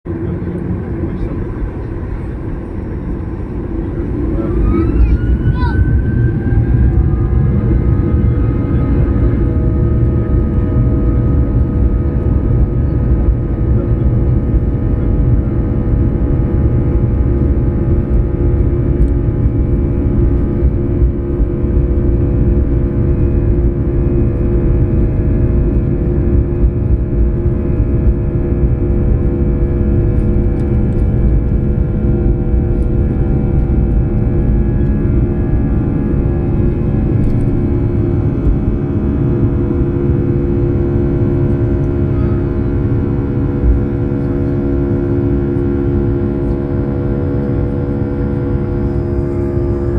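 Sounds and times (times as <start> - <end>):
jet engine rumble from cabin: 0.0 - 49.9
engine whining tones: 0.1 - 49.9.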